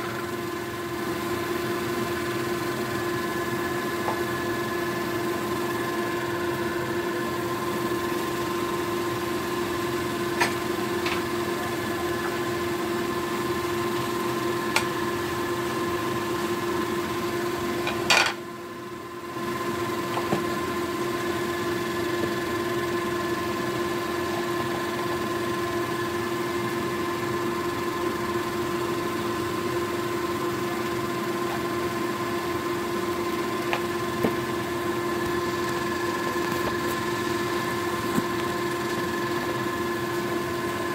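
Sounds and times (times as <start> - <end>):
appliance fan motor hum: 0.0 - 40.9.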